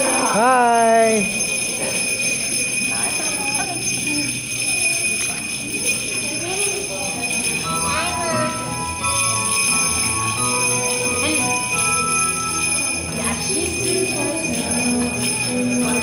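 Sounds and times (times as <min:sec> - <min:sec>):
jingle bells shaken: 0:00.0 - 0:16.0.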